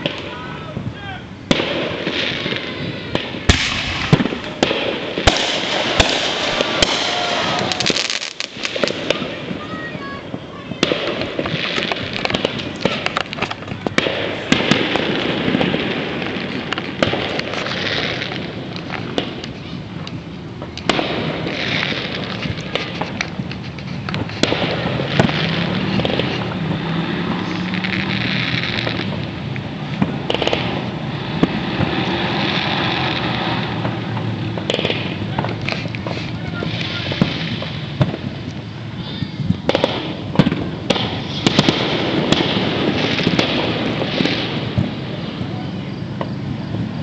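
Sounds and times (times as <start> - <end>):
background rumble: 0.0 - 47.0
fireworks reports and pops: 0.0 - 47.0
steady noisy background: 0.0 - 47.0.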